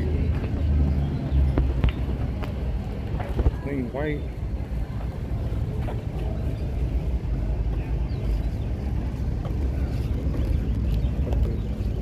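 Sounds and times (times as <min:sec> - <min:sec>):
faint voices of people: 0:00.0 - 0:12.0.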